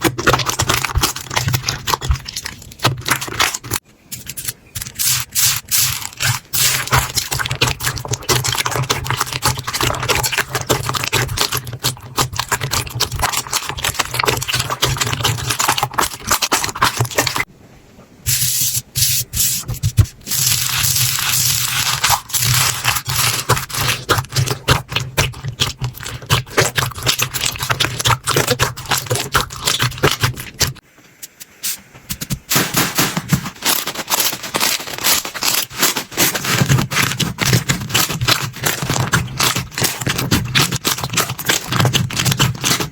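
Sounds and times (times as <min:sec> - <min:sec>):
slime squeezed and stretched: 0:00.0 - 0:17.5, 0:19.9 - 0:30.8, 0:33.0 - 0:42.9.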